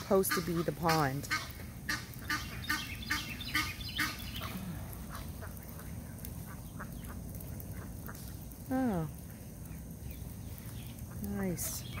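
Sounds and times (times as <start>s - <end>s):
ducks and geese calling: 0.0s - 12.0s.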